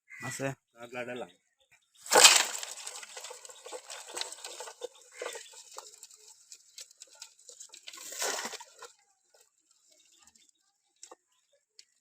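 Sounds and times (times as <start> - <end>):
water splashing and pattering: 2.0 - 12.0.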